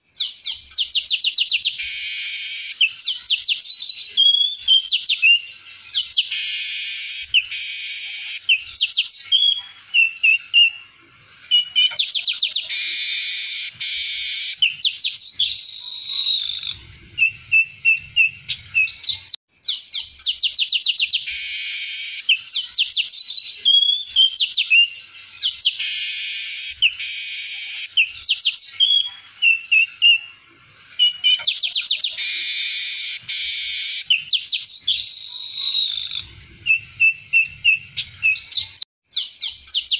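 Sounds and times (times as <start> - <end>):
bird singing with trills and buzzes: 0.0 - 39.9.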